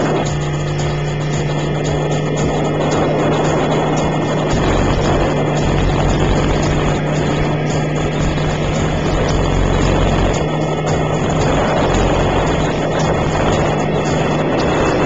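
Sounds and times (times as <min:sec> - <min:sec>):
rc helicopter motor and rotor: 0:00.0 - 0:15.0.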